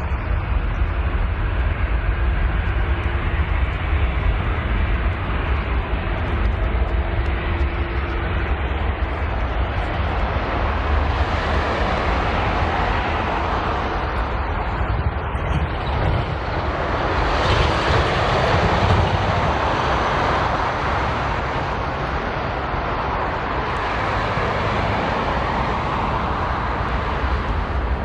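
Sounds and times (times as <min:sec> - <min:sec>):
jet engines at takeoff thrust: 0:00.0 - 0:28.0.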